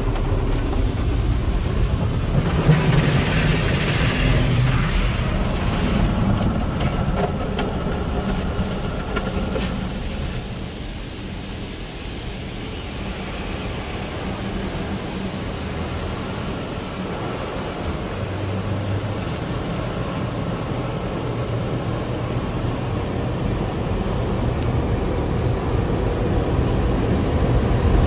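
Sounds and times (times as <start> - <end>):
water spraying over a car: 0.0 - 26.0
car wash machinery hum: 0.0 - 28.0.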